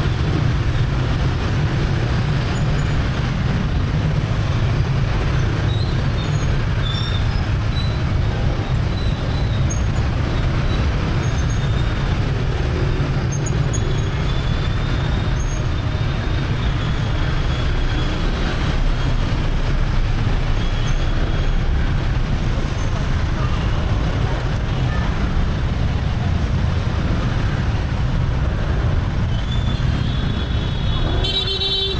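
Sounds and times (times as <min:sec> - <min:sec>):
traffic engines and road noise: 0:00.0 - 0:31.9.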